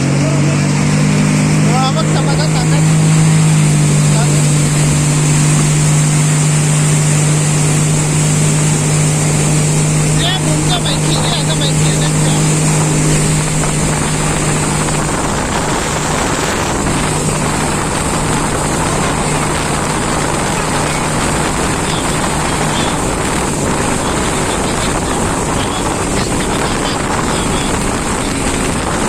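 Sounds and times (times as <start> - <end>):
jet ski engine hum: 0.0 - 29.0
wind and water rushing: 0.0 - 29.0.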